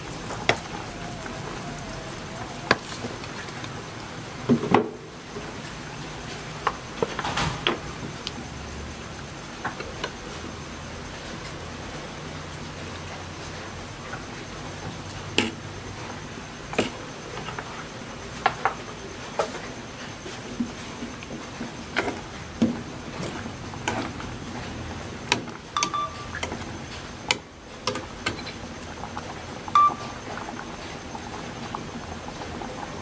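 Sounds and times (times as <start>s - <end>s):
broth boiling in a pot: 0.0s - 33.0s.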